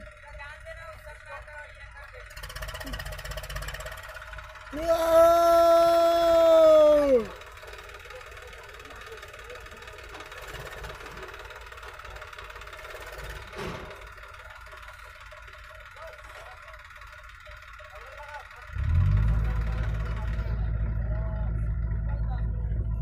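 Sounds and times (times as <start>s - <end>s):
diesel engine humming: 0.0s - 23.0s
faint diesel machinery: 0.0s - 23.0s.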